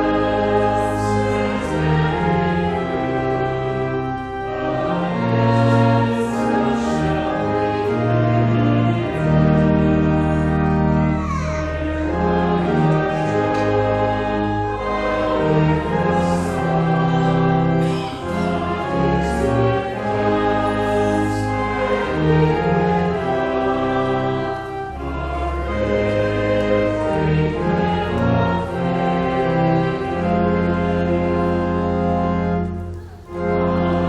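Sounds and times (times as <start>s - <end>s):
voices singing a hymn: 0.0s - 34.0s.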